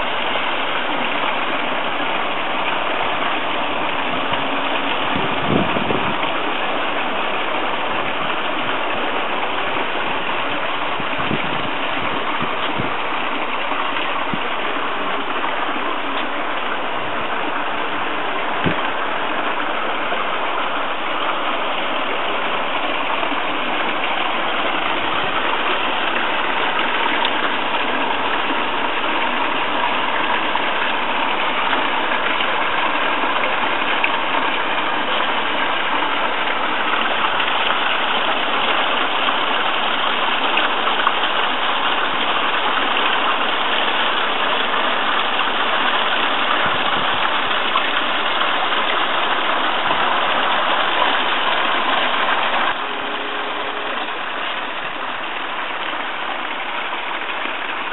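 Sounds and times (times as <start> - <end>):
water splashing into pond: 0.0 - 57.9.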